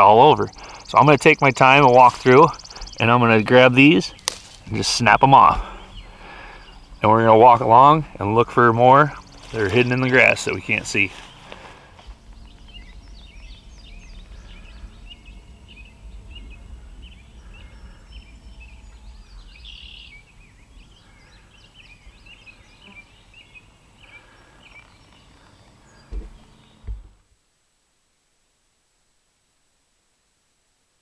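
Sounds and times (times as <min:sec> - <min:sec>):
birds chirping and singing: 0:00.0 - 0:27.0
low wind rumble: 0:00.0 - 0:27.2.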